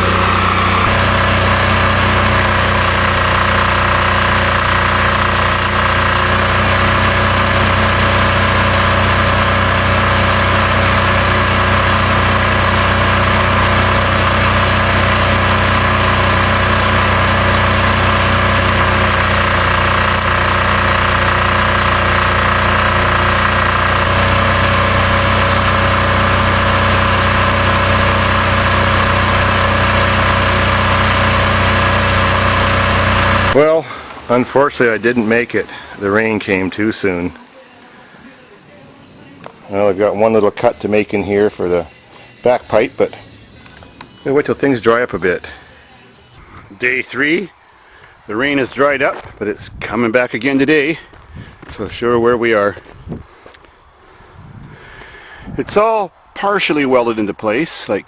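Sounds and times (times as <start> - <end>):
diesel generator running: 0.0 - 58.0.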